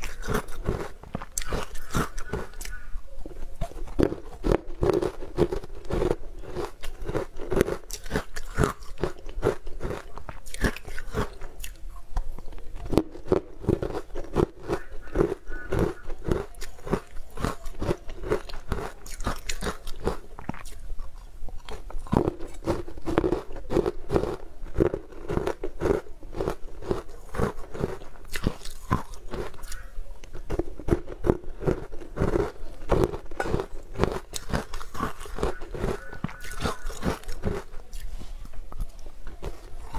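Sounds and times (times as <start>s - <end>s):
person chewing crunchily: 0.0s - 39.9s.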